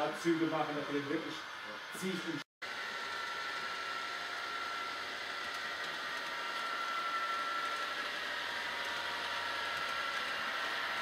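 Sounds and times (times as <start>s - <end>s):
model locomotive whirring: 0.0s - 11.0s.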